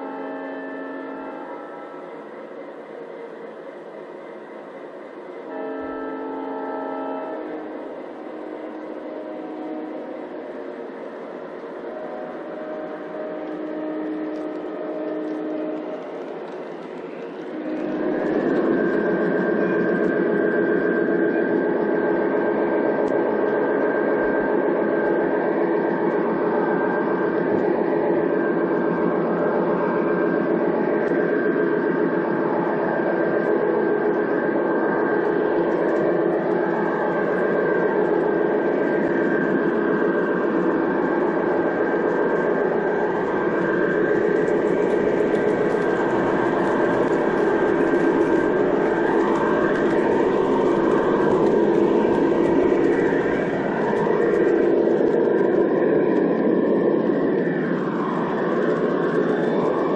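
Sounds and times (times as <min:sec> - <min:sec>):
steady high tone: 0:00.0 - 0:22.7, 0:32.5 - 0:59.9
model train diesel engine sound: 0:00.0 - 0:59.9.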